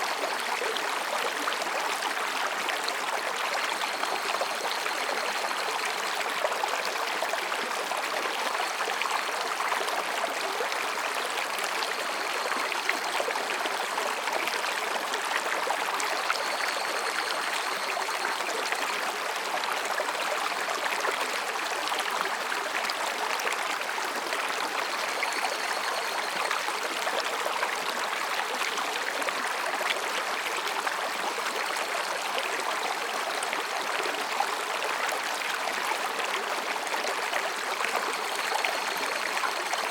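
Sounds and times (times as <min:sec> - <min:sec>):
mountain stream over rocks: 0:00.0 - 0:39.9.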